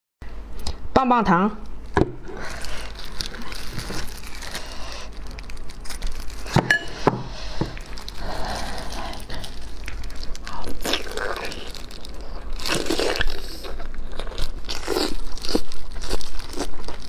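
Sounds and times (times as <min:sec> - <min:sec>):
plastic gloves crinkling: 0:01.8 - 0:17.0.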